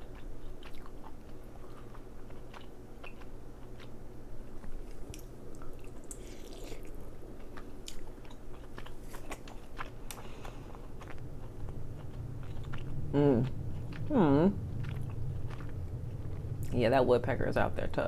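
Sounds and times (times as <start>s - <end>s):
chewing and crunching crab: 0.0s - 16.8s
faint low hum: 0.0s - 18.0s.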